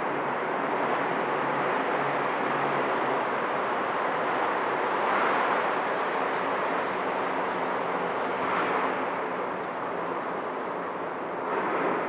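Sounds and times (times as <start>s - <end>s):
outdoor rushing noise: 0.7s - 12.0s.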